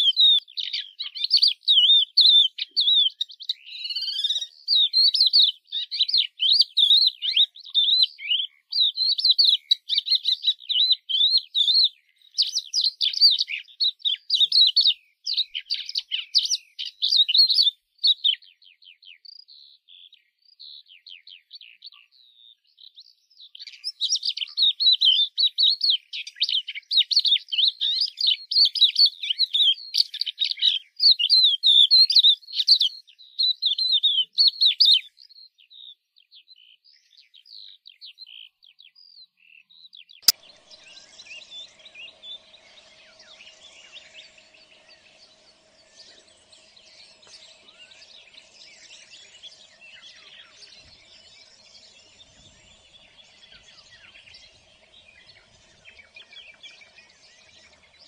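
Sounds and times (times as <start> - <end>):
lark singing: 0.0 - 58.0.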